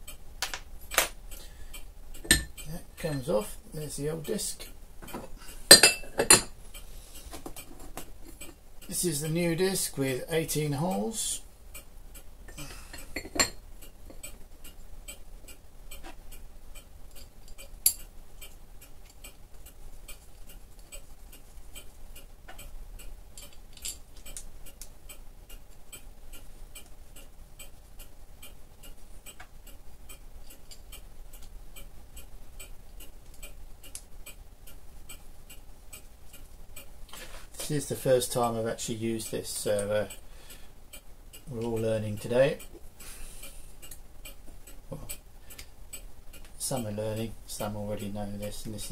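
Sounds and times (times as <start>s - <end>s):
mechanical clock ticking: 0.0s - 48.9s.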